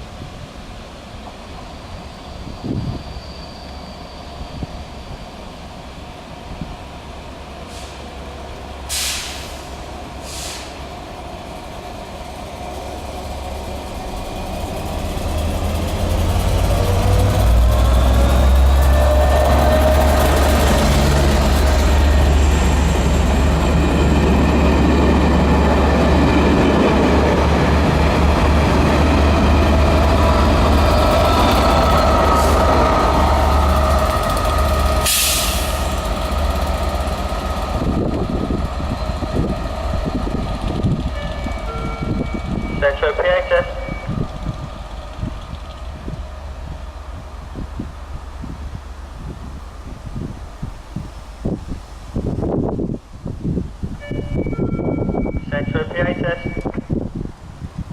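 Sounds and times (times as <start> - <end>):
diesel locomotive engine: 0.0 - 57.9
train wheels on rails: 0.2 - 42.8, 43.8 - 53.0.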